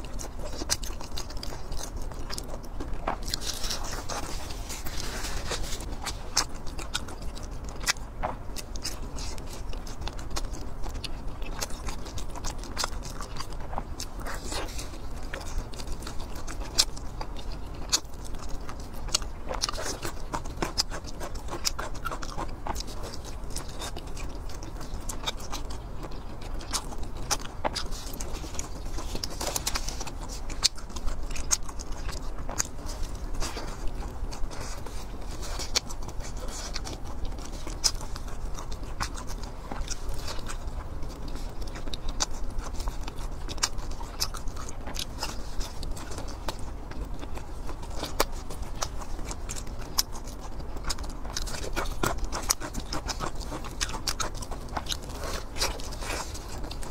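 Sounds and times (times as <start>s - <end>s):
chewing and biting meat: 0.0s - 56.9s.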